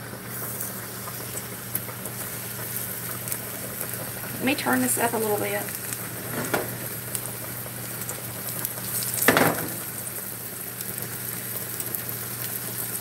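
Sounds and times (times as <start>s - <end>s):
steak sizzling in hot oil: 0.0s - 13.0s.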